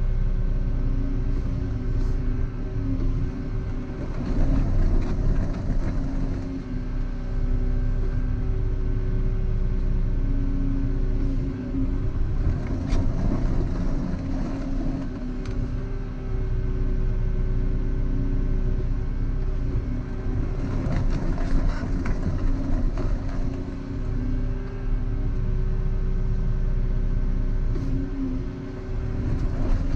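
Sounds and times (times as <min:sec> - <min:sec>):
excavator diesel engine: 0:00.0 - 0:29.9.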